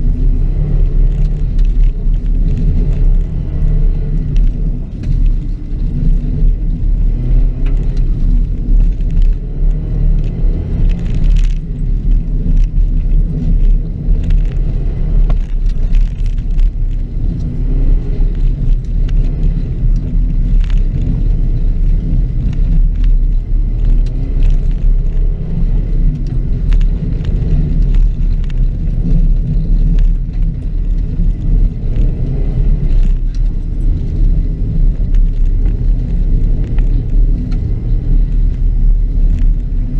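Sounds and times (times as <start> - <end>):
car engine revving: 0.0 - 39.9
heavy low rumble: 0.0 - 39.9.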